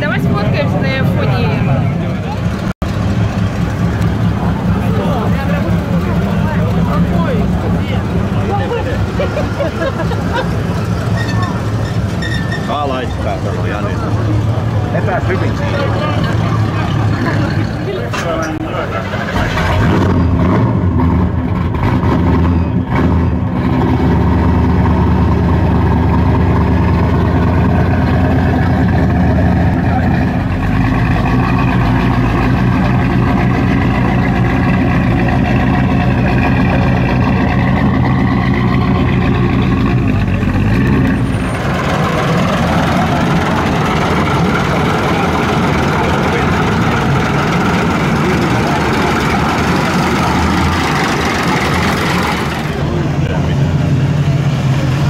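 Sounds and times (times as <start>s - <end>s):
car engine running deep: 0.0s - 55.0s
rough-running old car engine: 0.0s - 55.0s.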